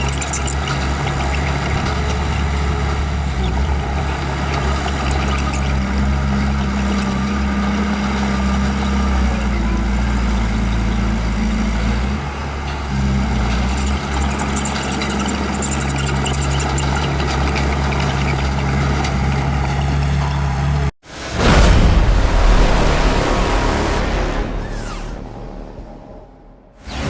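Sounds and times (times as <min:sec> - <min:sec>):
bulldozer diesel engine running: 0:00.0 - 0:26.7.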